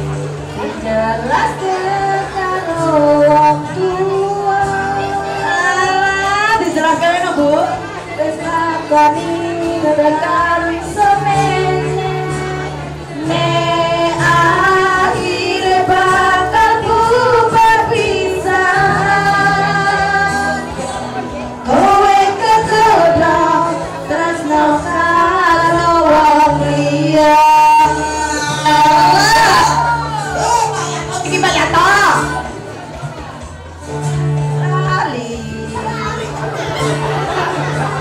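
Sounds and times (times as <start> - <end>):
women singing: 0.0 - 32.6, 33.9 - 38.0
acoustic guitar: 0.0 - 38.0.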